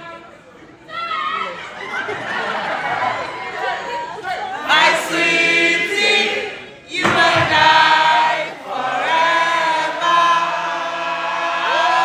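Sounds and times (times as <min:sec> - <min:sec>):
crowd singing along: 0:02.2 - 0:12.0.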